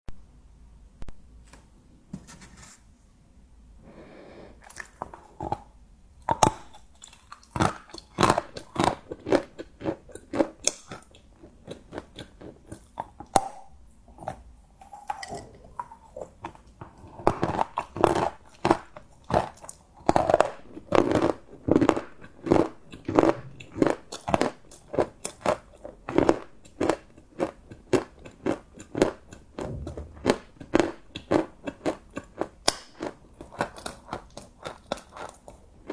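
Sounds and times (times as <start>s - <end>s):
chewing crunchy chocolate: 4.6s - 35.9s.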